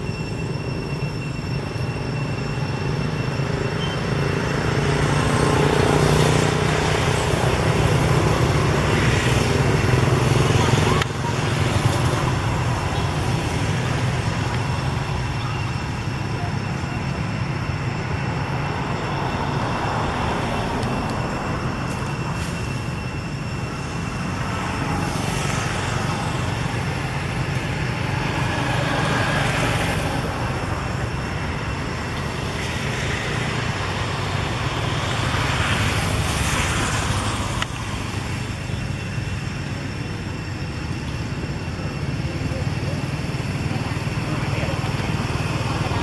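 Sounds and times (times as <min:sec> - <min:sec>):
road traffic rumble: 0:00.0 - 0:46.0
vehicles passing: 0:00.0 - 0:46.0.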